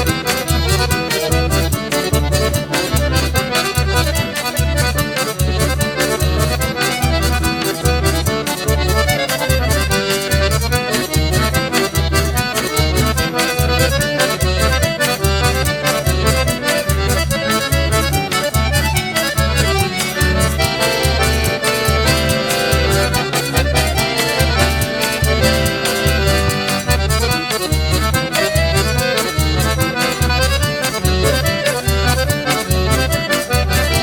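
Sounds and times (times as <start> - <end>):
accordion melody: 0.0 - 34.0
rapid ticking percussion: 0.0 - 34.0.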